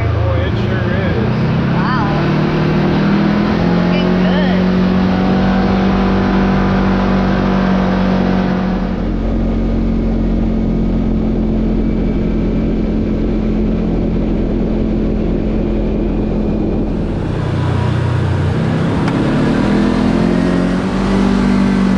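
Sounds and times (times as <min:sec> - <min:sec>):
tyre and road rumble: 0:00.0 - 0:21.9
vehicle engine running: 0:00.0 - 0:21.9.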